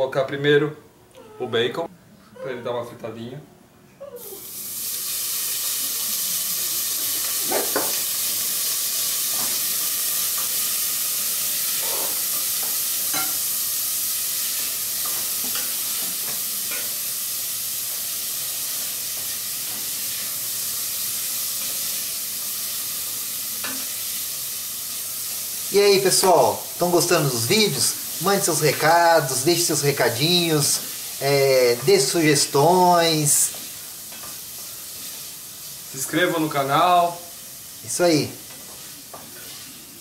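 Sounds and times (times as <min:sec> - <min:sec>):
bacon sizzling in a pot: 0:04.2 - 0:40.0.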